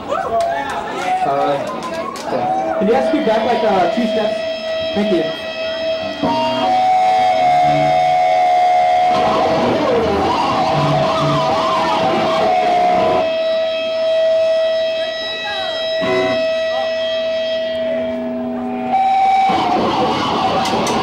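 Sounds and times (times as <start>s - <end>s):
live band electric guitar music: 1.6s - 21.0s.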